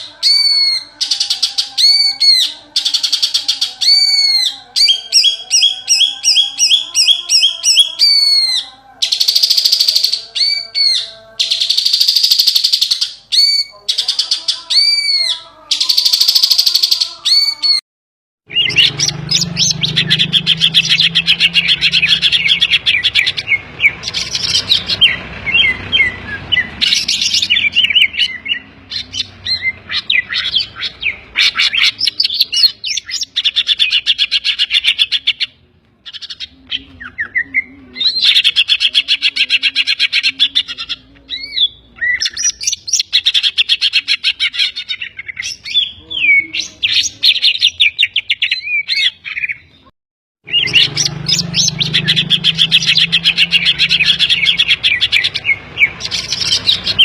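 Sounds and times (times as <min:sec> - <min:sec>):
bird singing loudly: 0:00.0 - 0:17.8, 0:18.5 - 0:57.0.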